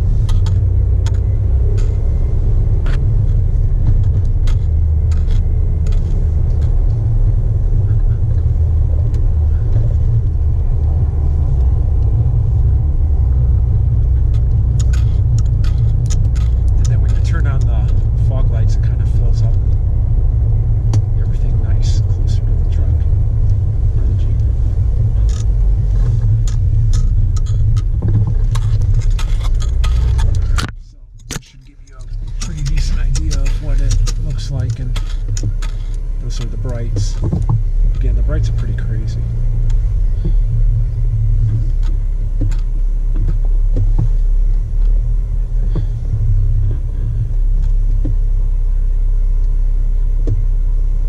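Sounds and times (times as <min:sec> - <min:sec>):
car engine rumbling: 0:00.0 - 0:51.0
light clicks and rattles: 0:00.2 - 0:12.5, 0:13.3 - 0:48.3.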